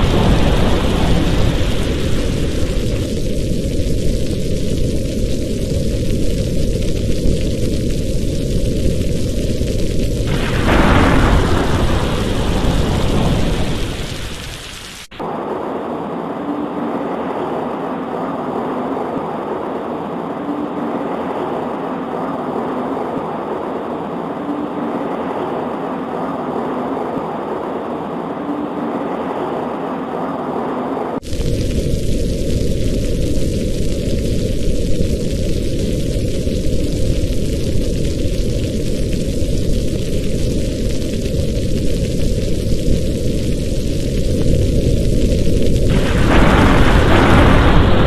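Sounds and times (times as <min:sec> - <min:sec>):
heavy rain: 0:00.0 - 0:48.0
steady rain hiss: 0:00.0 - 0:48.0
thunder rolling: 0:00.0 - 0:48.0.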